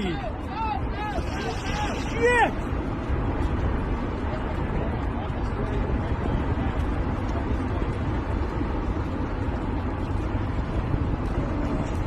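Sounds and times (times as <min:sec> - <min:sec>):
moving train rumble: 0:00.0 - 0:12.0
wind buffeting microphone: 0:00.0 - 0:12.0.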